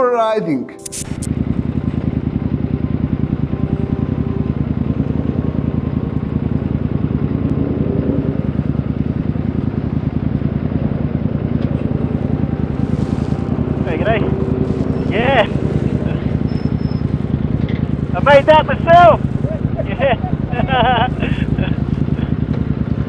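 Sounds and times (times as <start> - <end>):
motorcycle engine running: 1.3 - 23.0.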